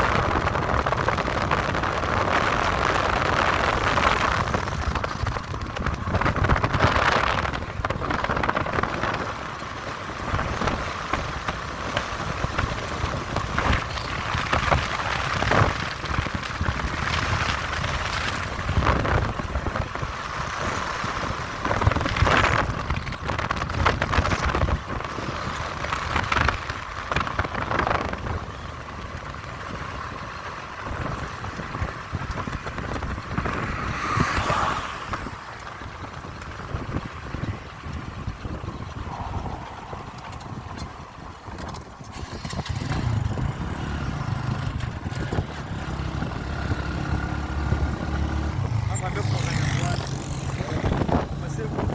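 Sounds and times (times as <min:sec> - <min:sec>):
vehicle road noise rumble: 0:00.0 - 0:51.9
wind on microphone: 0:00.0 - 0:51.9.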